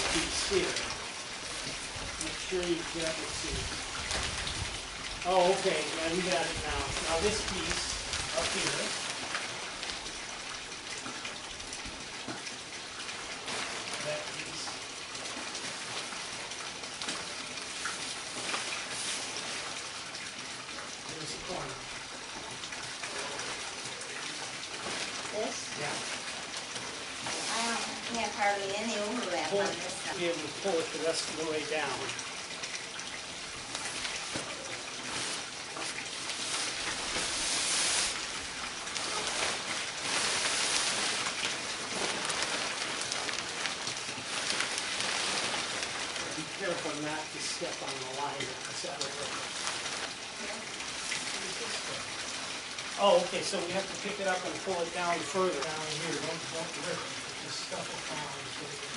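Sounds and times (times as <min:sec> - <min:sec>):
plastic sheeting crinkling: 0:00.0 - 0:58.9.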